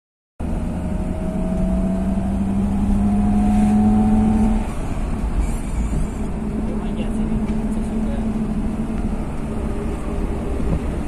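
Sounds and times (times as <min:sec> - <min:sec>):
car engine: 0:00.4 - 0:11.0
road rumble: 0:00.4 - 0:11.0.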